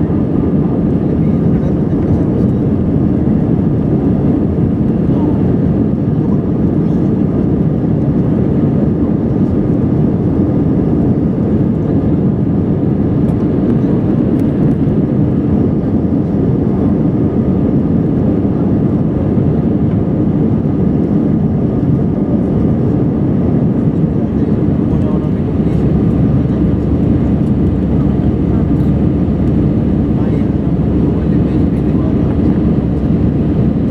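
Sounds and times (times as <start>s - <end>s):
jet engine cabin rush: 0.0s - 33.9s.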